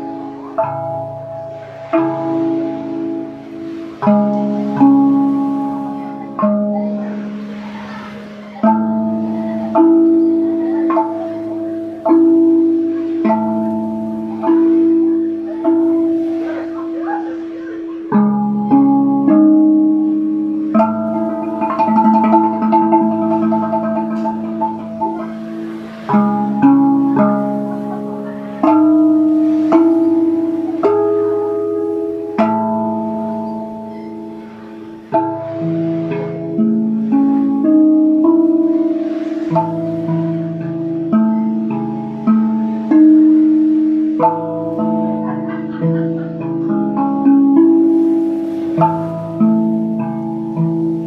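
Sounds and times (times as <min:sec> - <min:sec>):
steel tongue drum notes: 0:00.0 - 0:51.0.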